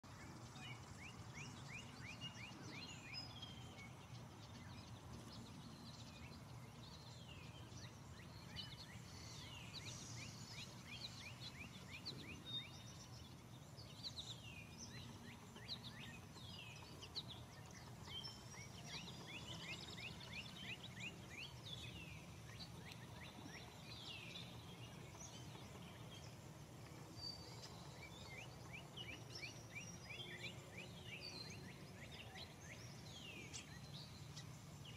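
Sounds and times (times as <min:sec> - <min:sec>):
birds singing and calling: 0:00.0 - 0:34.9.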